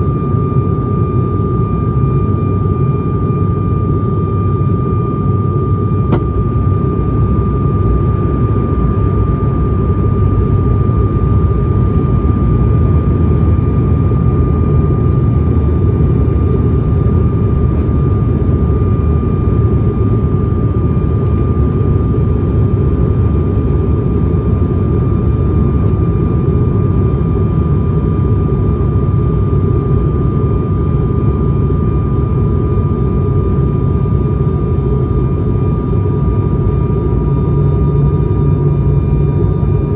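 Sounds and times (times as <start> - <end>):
turboprop airliner cabin drone: 0.0 - 39.9.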